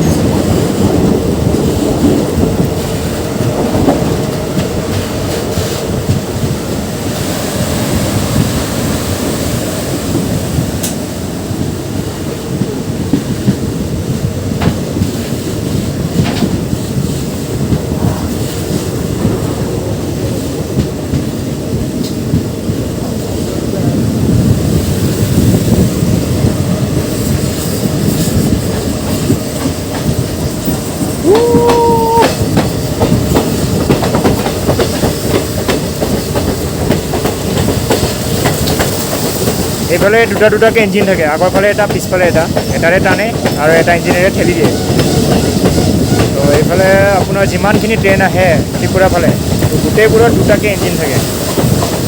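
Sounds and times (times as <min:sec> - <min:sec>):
train rumbling on rails: 0:00.0 - 0:52.0.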